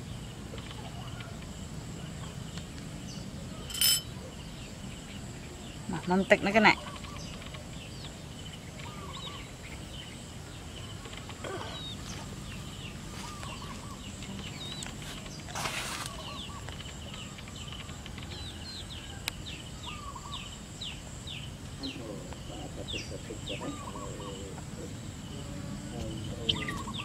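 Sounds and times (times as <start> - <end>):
faint outdoor background noise: 0.0 - 27.0
rustle: 0.0 - 27.0
small birds chirping: 0.0 - 27.0.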